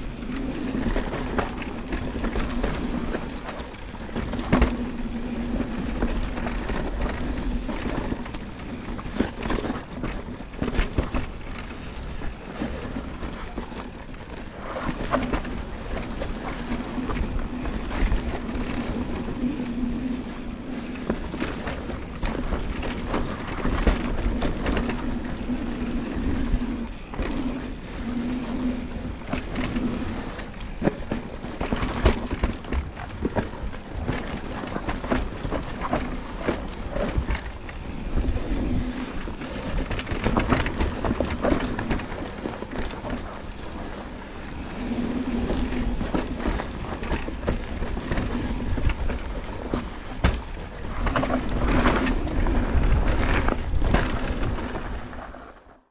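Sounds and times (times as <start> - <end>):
bike rattling and knocking: 0.0 - 55.8
wind buffeting microphone: 0.0 - 55.8
bike tyres rumbling on dirt: 0.0 - 55.9.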